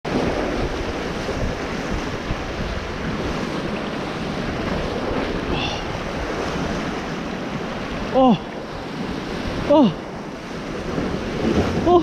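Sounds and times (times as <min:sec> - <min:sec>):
surf washing against rocks: 0:00.1 - 0:12.0
wind buffeting microphone: 0:00.1 - 0:12.0.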